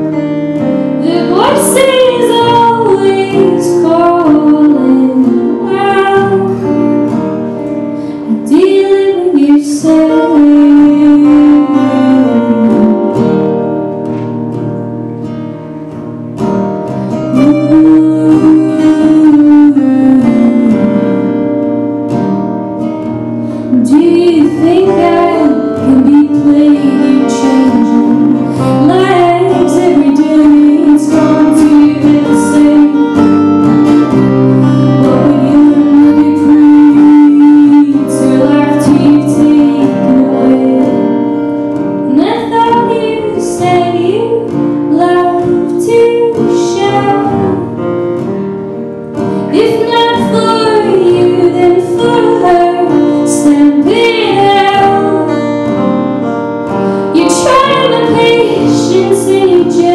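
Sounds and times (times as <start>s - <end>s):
woman singing: 0.0s - 13.7s, 16.9s - 21.8s, 23.5s - 48.4s, 49.2s - 59.9s
acoustic guitar: 0.0s - 59.9s.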